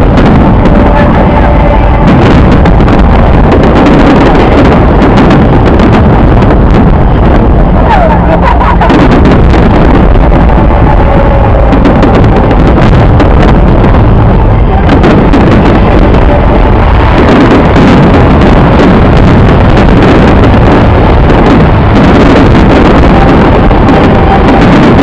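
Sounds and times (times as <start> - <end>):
fireworks bursts and crackles: 0.0 - 25.0.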